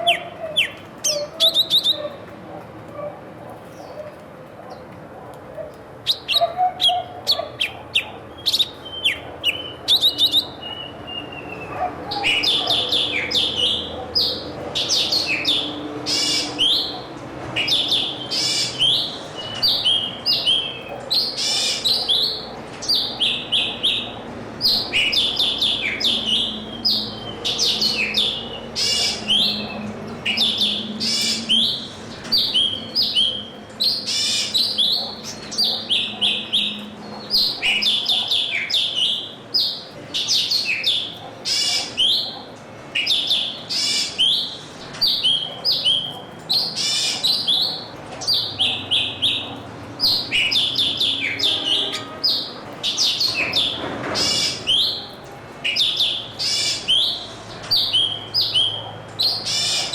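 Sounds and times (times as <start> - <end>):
small birds chirping: 0.0 - 2.4, 3.4 - 5.0, 5.7 - 59.9.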